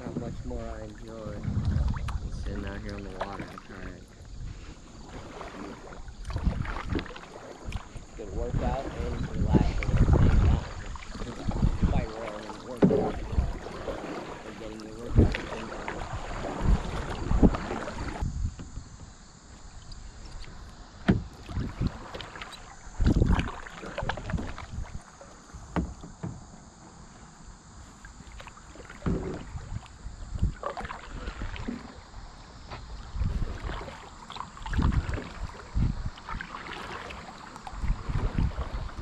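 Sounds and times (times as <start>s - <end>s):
kayak paddle splashing water: 0.0s - 39.0s.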